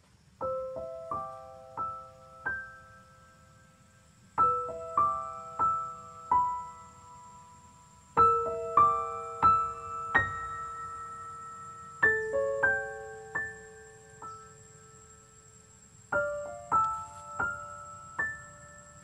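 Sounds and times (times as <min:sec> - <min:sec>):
gentle piano melody: 0:00.3 - 0:19.0.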